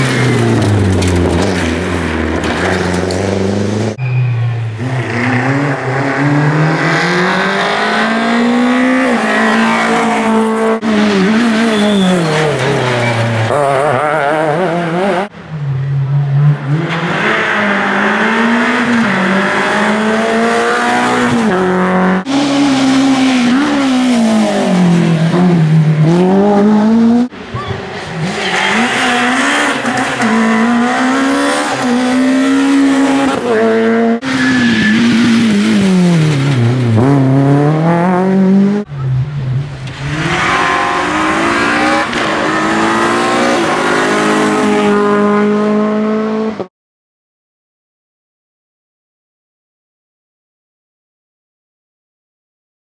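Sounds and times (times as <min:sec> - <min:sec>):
rally car engines revving: 0:00.0 - 0:46.7.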